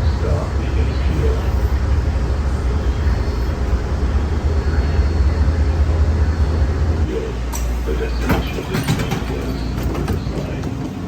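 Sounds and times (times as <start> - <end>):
light-rail train rumbling: 0.0 - 11.0.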